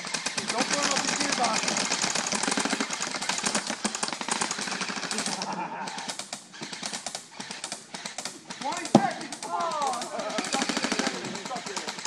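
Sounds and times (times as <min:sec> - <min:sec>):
airsoft rifles automatic bursts: 0:00.0 - 0:12.0.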